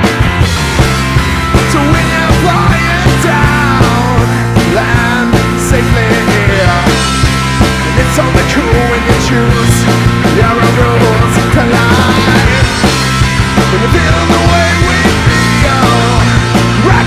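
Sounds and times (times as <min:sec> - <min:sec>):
electric guitar: 0:00.0 - 0:17.0
rock band playing live: 0:00.0 - 0:17.0.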